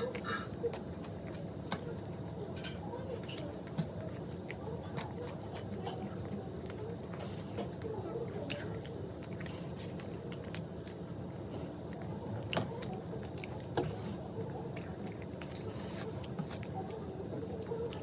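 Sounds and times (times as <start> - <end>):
chewing crunchy food: 0.0 - 18.0.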